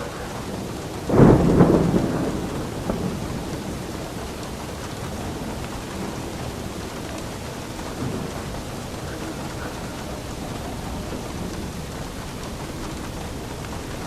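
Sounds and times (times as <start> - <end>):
steady rain falling: 0.0 - 14.0
thunderclap rumbling: 0.0 - 14.0.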